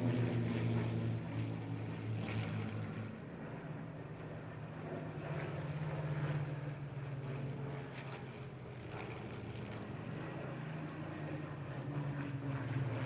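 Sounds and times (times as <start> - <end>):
propeller planes droning past: 0.0 - 13.0.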